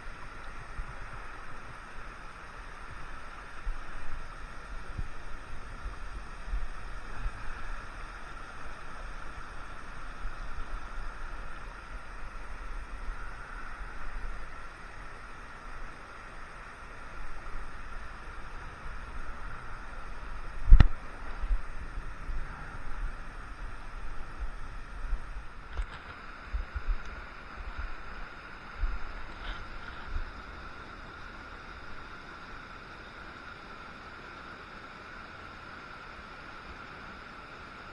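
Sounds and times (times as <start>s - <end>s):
wind rumbling on microphone: 0.0s - 32.3s
creek gurgling: 0.0s - 37.9s.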